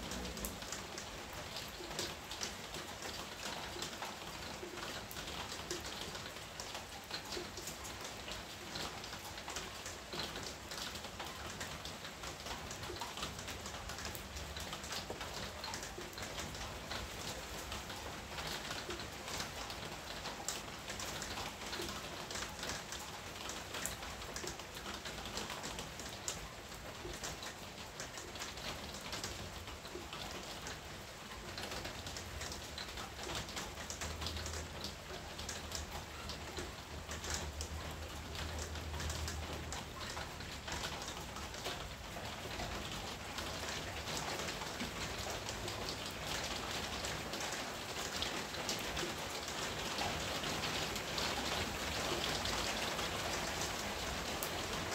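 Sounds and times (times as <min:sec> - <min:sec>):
rain falling on foliage: 0:00.0 - 0:54.9.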